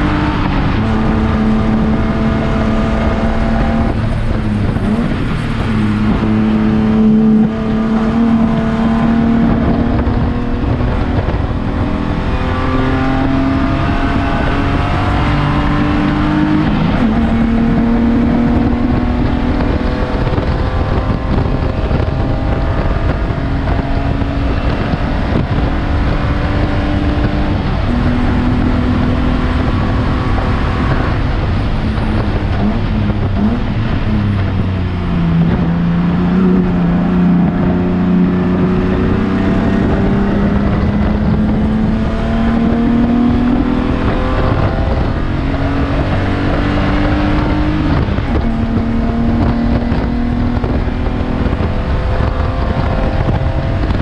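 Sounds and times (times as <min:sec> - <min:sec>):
race car engine accelerating: 0:00.0 - 0:54.0
road and wind noise: 0:00.0 - 0:54.0.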